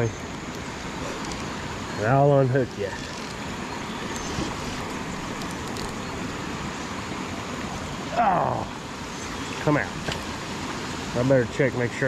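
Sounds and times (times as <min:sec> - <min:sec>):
river water running over rocks: 0:00.0 - 0:12.0.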